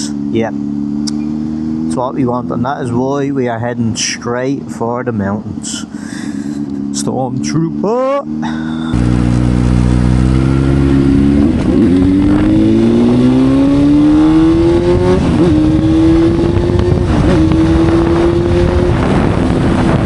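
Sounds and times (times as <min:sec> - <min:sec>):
motorcycle engine accelerating: 0:00.0 - 0:04.8, 0:05.6 - 0:20.0
wind and road noise: 0:00.0 - 0:20.0.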